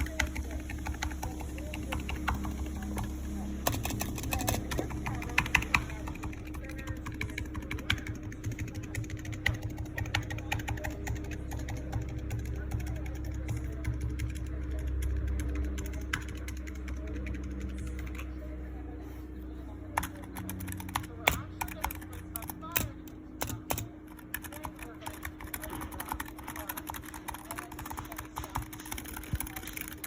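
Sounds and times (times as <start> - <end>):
keyboard key presses: 0.0 - 18.3, 19.9 - 30.0.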